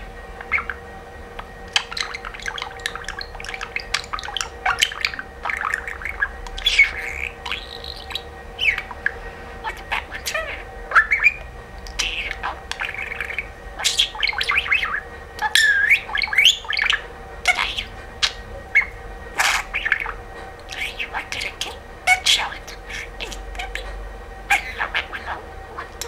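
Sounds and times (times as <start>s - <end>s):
budgerigar chattering: 0.0s - 26.0s.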